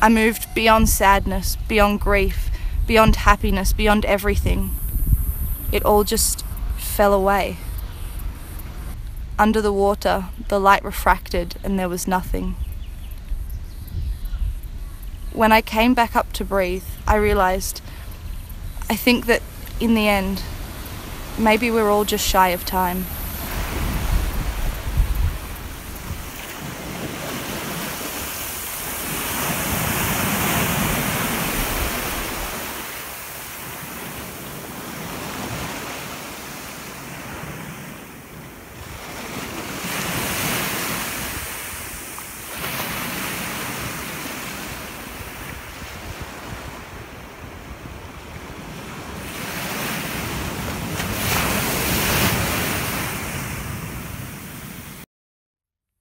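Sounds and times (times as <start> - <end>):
wind buffeting microphone: 0.0 - 54.5
sea waves washing in: 0.0 - 55.1.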